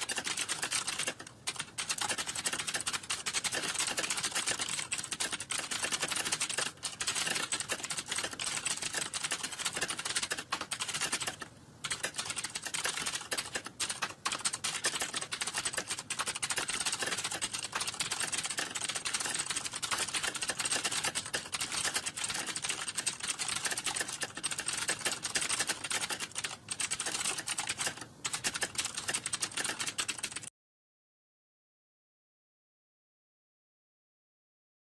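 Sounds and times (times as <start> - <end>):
typing on computer keyboard: 0.0 - 30.5.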